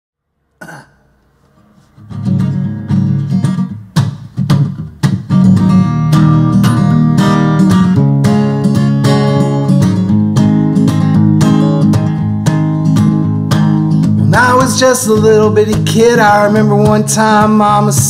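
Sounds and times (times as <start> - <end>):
acoustic guitar strumming: 0.6 - 18.0.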